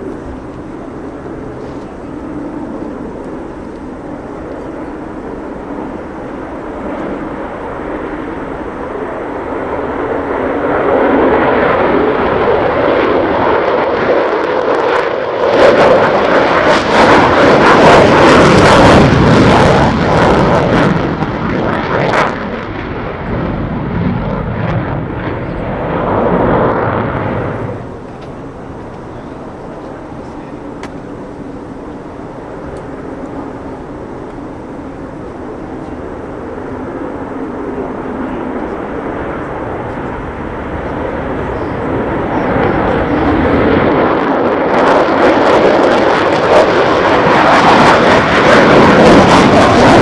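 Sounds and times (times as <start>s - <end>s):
jet fighter passing overhead: 0.0s - 50.0s.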